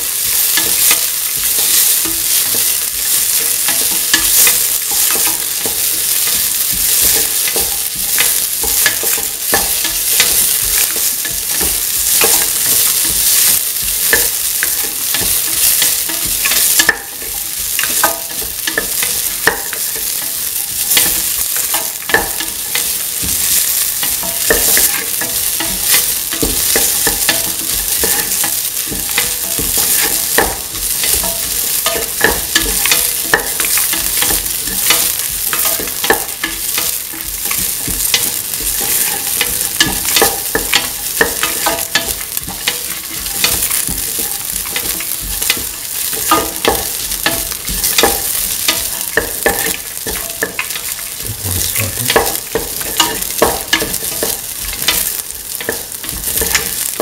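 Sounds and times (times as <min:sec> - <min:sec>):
onions sizzling in oil: 0:00.0 - 0:57.0.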